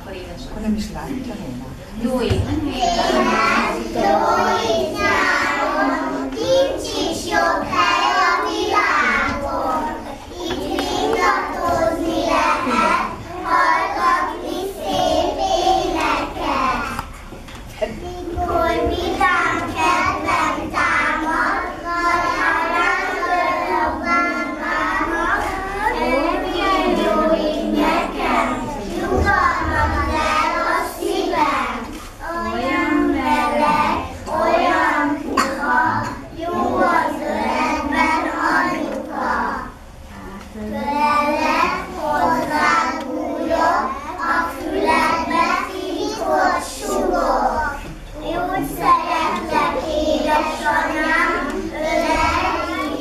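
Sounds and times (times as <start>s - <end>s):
children singing in unison: 2.7s - 17.3s, 18.2s - 40.0s, 40.7s - 53.0s.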